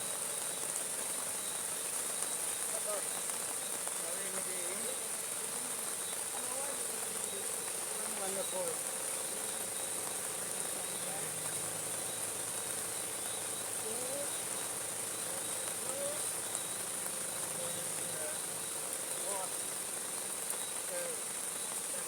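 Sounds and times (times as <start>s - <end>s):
high-pitched insect chorus: 0.0s - 22.0s
faint voices: 2.6s - 22.0s.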